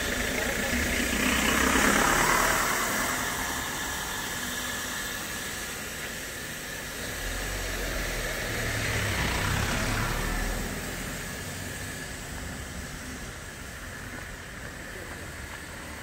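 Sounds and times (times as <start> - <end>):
low engine hum: 0.0 - 16.0
steady hissing noise: 0.0 - 16.0.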